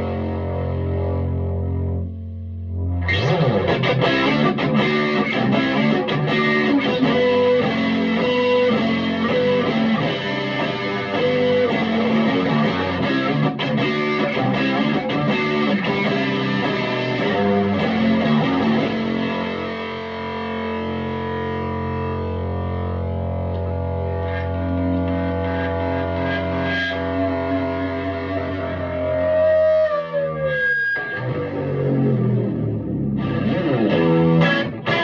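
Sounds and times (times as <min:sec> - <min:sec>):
overdriven electric guitar: 0:00.0 - 0:35.0.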